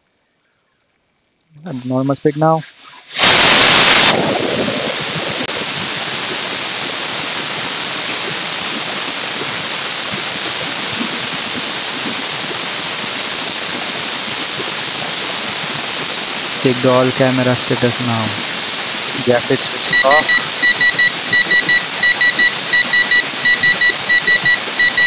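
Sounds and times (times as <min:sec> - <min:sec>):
pressure cooker steam hissing: 0:03.1 - 0:25.0.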